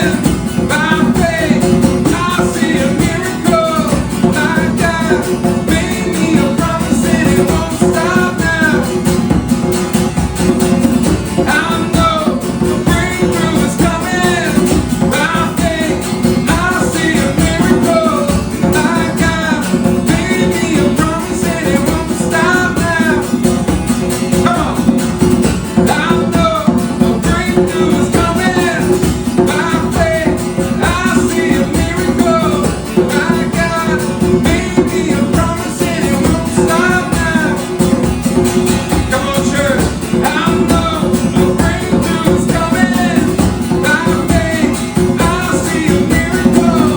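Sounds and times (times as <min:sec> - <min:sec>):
acoustic guitar chords: 0:00.0 - 0:46.9
person singing: 0:00.0 - 0:46.9.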